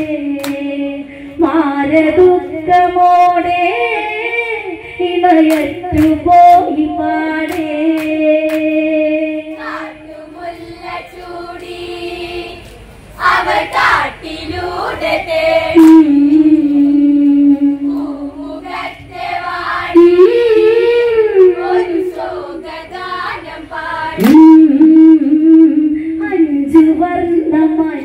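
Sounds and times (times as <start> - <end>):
women singing unaccompanied: 0.0 - 28.0.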